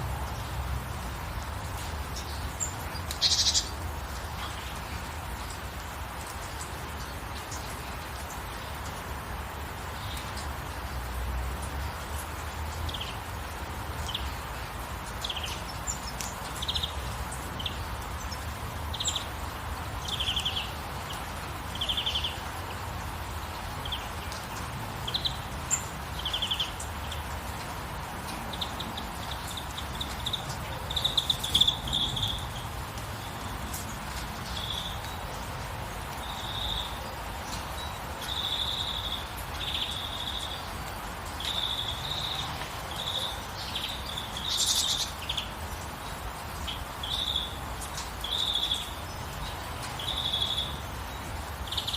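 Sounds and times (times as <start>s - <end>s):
background hiss: 0.0s - 51.9s.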